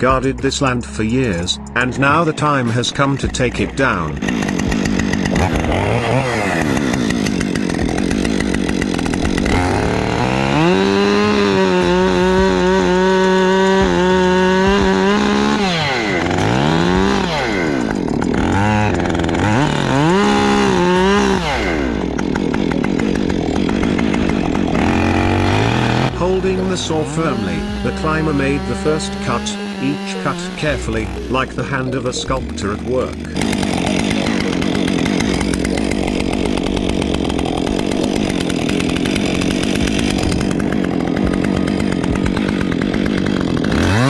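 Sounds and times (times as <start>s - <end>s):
chainsaw engine revving: 0.0s - 44.0s.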